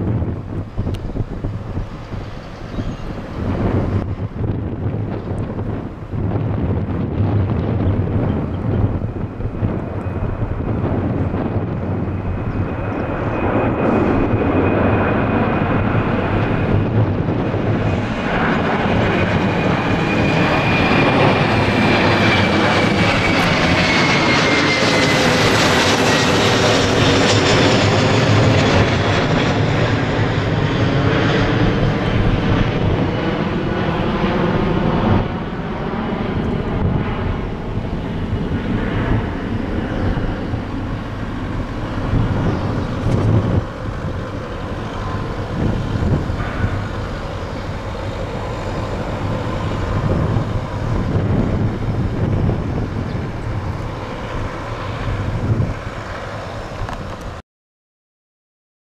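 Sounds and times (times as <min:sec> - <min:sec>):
jet airliner roar passing overhead: 0:00.0 - 0:57.4.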